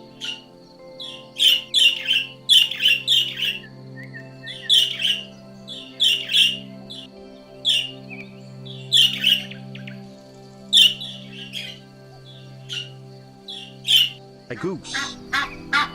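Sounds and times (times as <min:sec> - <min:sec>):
background music: 0:00.0 - 0:15.9.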